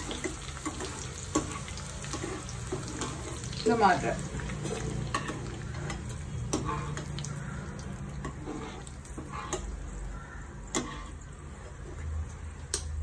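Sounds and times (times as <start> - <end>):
hot oil sizzling in a pot: 0.0 - 12.9.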